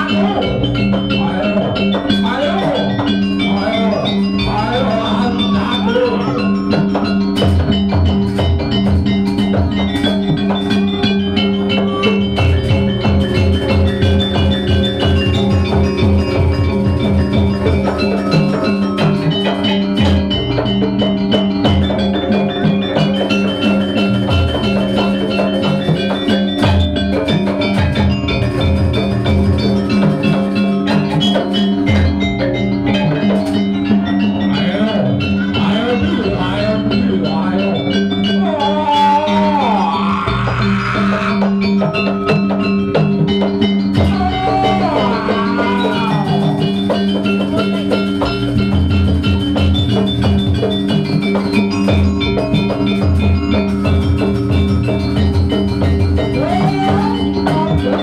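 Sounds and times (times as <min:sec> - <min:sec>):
drums beating: 0:00.0 - 0:58.0
metal mallet instruments ringing: 0:00.0 - 0:58.0.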